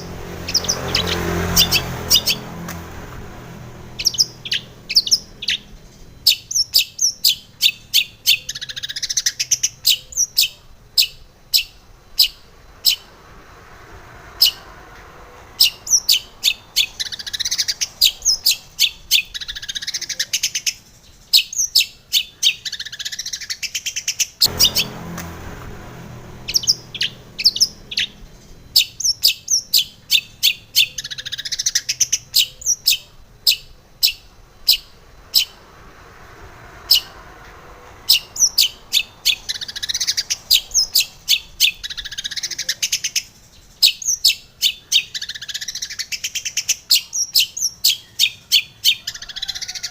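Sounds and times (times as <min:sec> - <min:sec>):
shrike singing sharp chips: 0:00.0 - 0:13.4, 0:14.2 - 0:35.6, 0:38.0 - 0:49.8.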